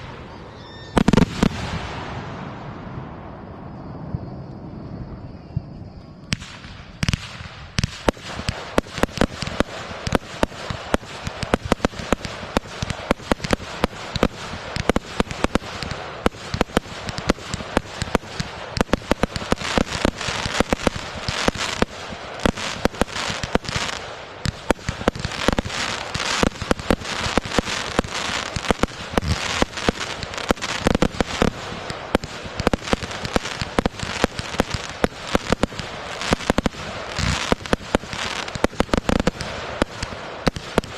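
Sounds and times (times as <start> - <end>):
fireworks crackle: 0.0 - 3.4, 6.2 - 40.9
fireworks bangs and pops: 0.9 - 2.6, 6.2 - 40.9.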